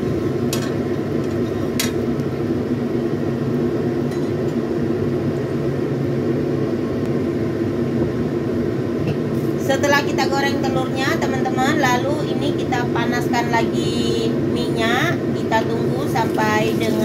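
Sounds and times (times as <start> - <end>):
low kitchen drone: 0.0 - 17.0.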